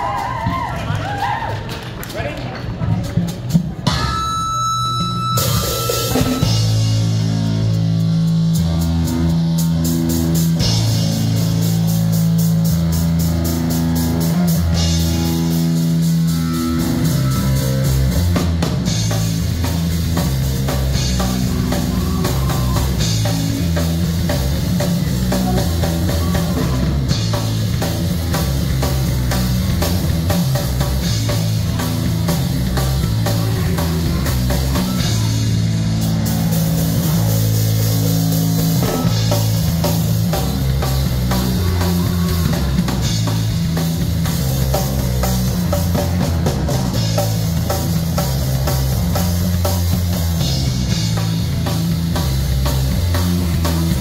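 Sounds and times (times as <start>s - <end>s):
live rock band playing: 2.7s - 54.0s.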